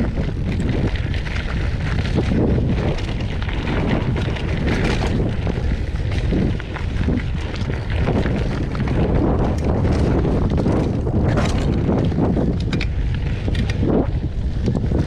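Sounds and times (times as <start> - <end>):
bike rattling clicks and knocks: 0.0 - 15.0
wind rumbling over microphone: 0.0 - 15.0.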